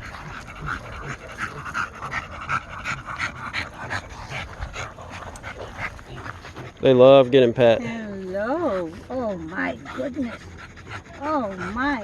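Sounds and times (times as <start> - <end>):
dog panting heavily: 0.0 - 12.0.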